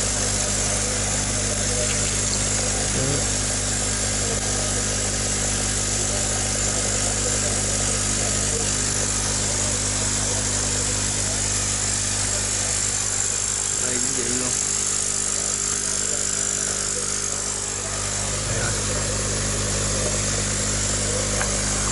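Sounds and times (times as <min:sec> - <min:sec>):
air pump humming: 0:00.0 - 0:21.9.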